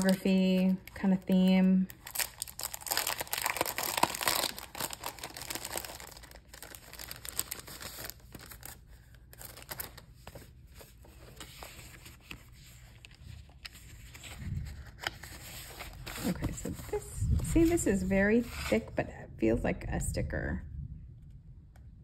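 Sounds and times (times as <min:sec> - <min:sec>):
plastic wrapping crinkling: 0:00.0 - 0:18.1
paper cards rustling: 0:00.0 - 0:18.9.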